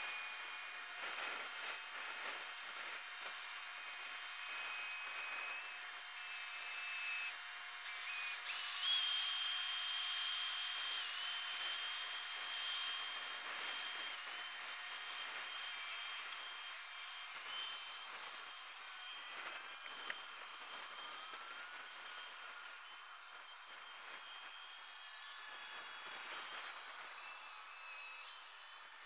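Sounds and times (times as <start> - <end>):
high-pitched machine whine: 0.0 - 29.0.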